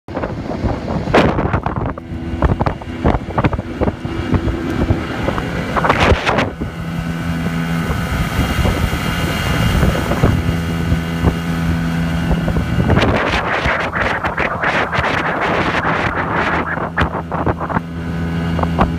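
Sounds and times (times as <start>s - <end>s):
outboard motor running: 0.1s - 18.9s
wind on microphone: 0.1s - 18.9s.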